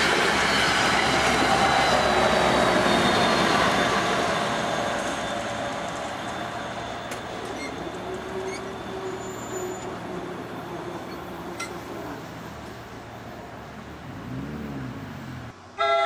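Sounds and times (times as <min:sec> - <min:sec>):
passenger train rushing past: 0:00.0 - 0:16.0.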